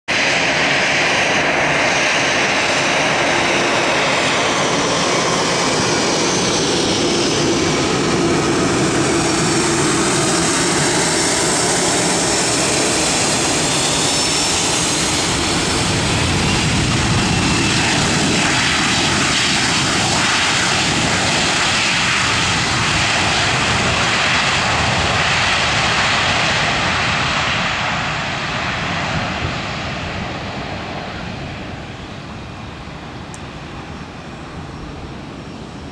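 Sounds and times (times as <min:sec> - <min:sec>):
jet engines landing: 0:00.1 - 0:35.9.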